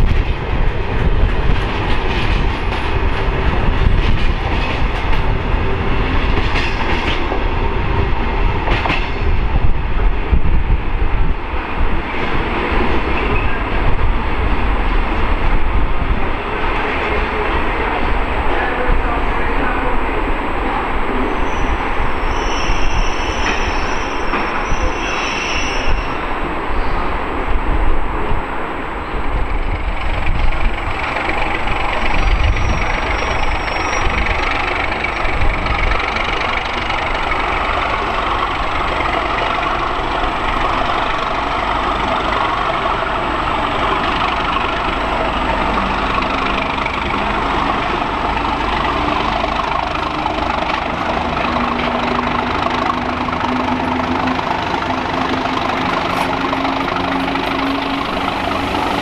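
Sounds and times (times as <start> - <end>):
diesel locomotive engine running: 0.0 - 21.2, 29.3 - 59.0.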